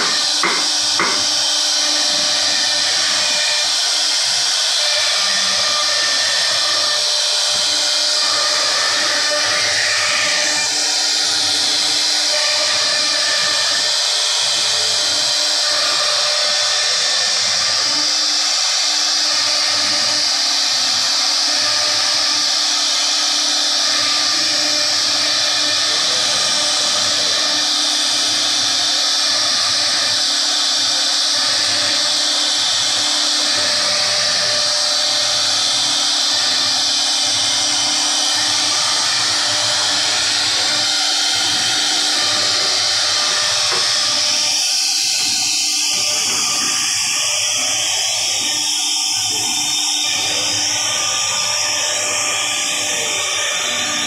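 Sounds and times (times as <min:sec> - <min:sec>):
router spindle whining while cutting wood: 0:00.0 - 0:54.0.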